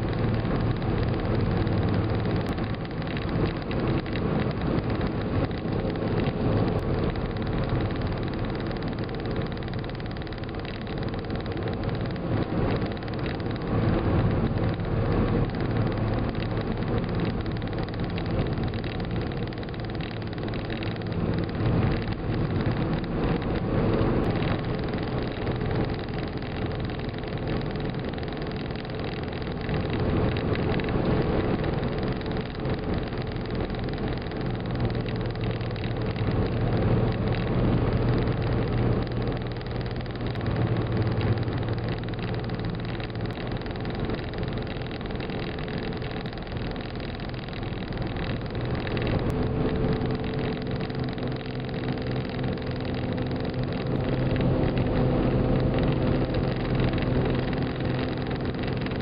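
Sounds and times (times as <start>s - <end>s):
engine hum: 0.0s - 59.0s
tyre and wind noise: 0.0s - 59.0s.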